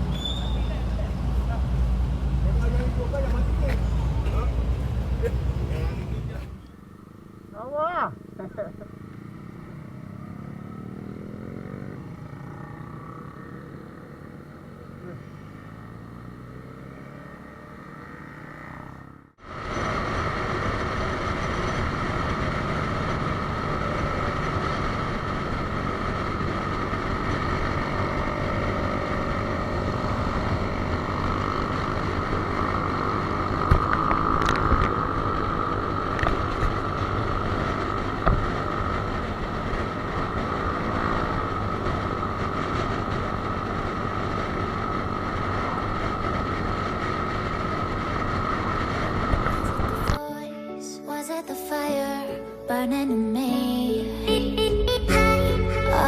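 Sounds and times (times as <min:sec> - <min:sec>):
vehicle running: 0:00.0 - 0:50.2, 0:53.1 - 0:56.0.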